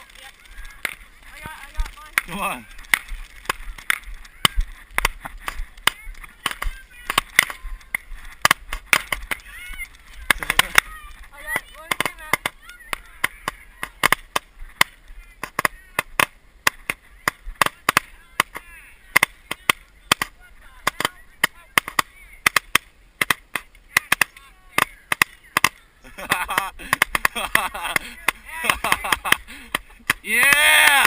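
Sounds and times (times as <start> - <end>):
faint shouting voices: 0.0 - 26.9, 27.7 - 31.0
fireworks popping: 0.0 - 31.0.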